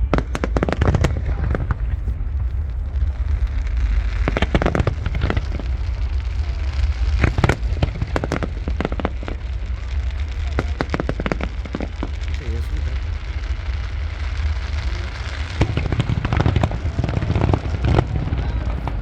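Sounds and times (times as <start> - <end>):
fireworks bangs and crackles: 0.0 - 19.0
low rumble: 0.0 - 19.0.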